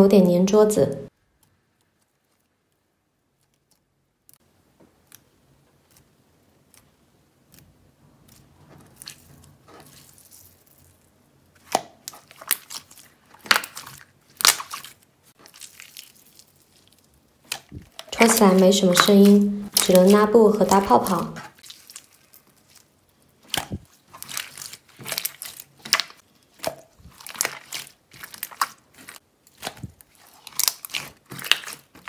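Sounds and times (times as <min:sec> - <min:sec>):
sticky slime crackling and squishing: 0:00.1 - 0:32.0.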